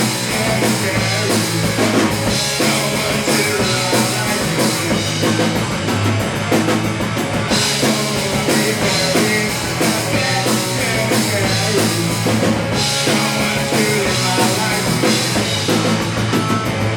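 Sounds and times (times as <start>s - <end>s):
punk rock band playing: 0.0s - 16.9s.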